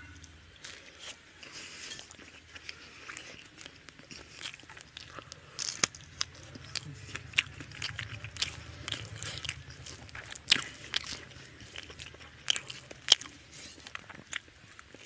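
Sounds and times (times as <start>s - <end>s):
chewing with wet mouth clicks: 0.6s - 15.0s.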